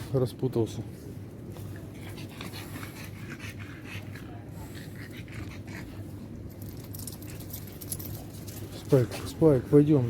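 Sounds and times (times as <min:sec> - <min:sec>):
steady low hum: 0:00.0 - 0:10.0
dogs scratching and rustling: 0:01.5 - 0:10.0.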